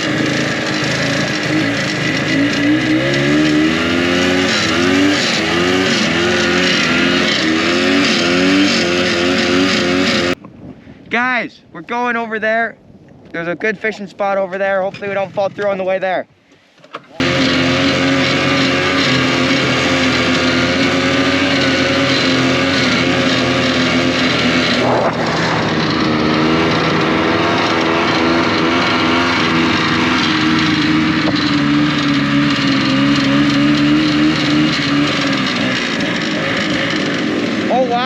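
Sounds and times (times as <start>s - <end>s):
snowmobile engine running: 0.0s - 10.4s, 17.2s - 38.0s.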